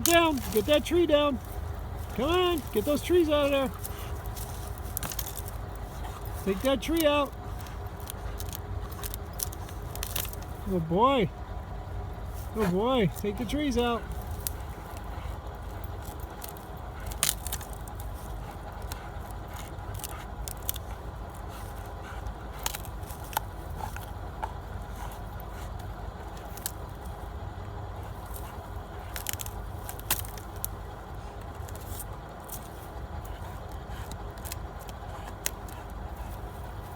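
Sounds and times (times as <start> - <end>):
wood cracking and snapping: 0.0 - 10.7, 11.5 - 36.9
dog chewing wood: 0.0 - 36.9.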